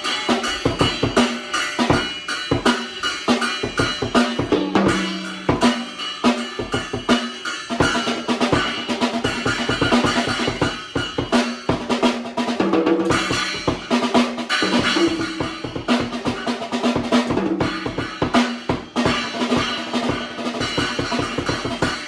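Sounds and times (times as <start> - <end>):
bass drum and snare beat: 0.0 - 22.0.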